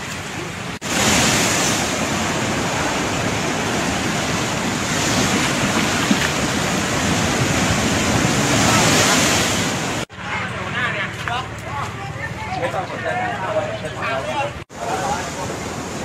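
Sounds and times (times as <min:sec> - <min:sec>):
sea surf washing ashore: 0:00.0 - 0:16.0.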